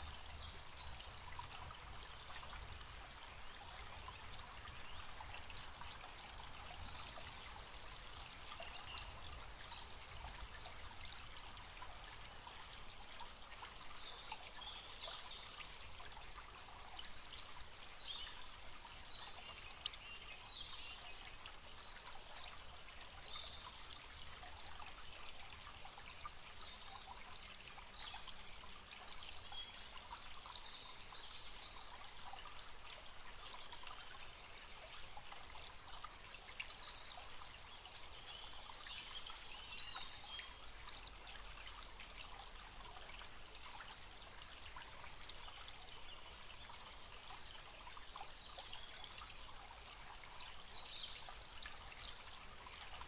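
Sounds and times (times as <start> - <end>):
stream trickling and babbling: 0.0 - 53.0.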